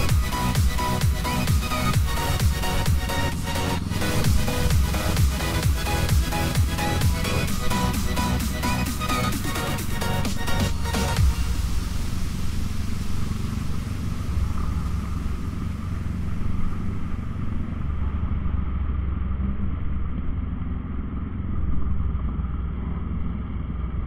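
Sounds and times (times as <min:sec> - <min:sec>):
motorcycle engine rumble: 0:00.0 - 0:24.0
wind and road noise: 0:00.0 - 0:24.0.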